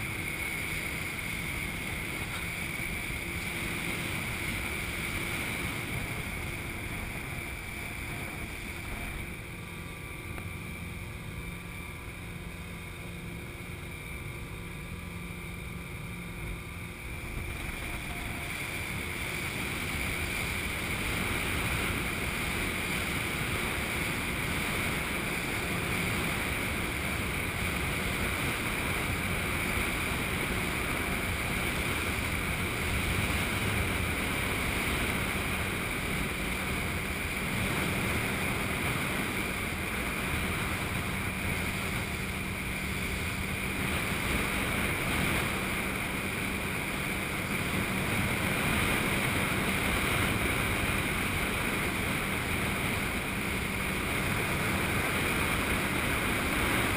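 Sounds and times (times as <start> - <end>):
motorboat engine drone: 0.0 - 56.9
water rushing along hull: 0.0 - 56.9
wind noise: 0.0 - 56.9.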